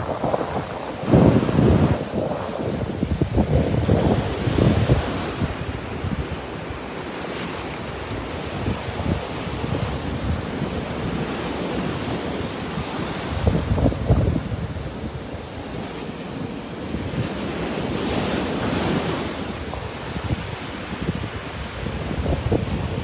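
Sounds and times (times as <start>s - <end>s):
surf washing up beach: 0.0s - 23.0s
wind buffeting microphone: 0.0s - 23.0s.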